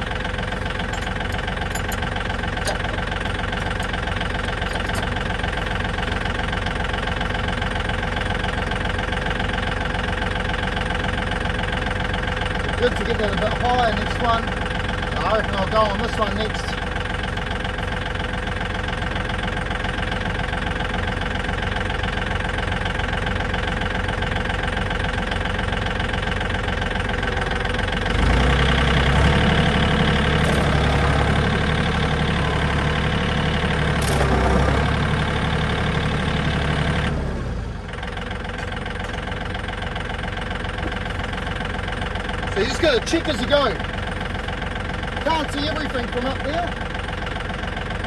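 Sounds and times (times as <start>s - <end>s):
tractor engine: 0.0s - 48.0s.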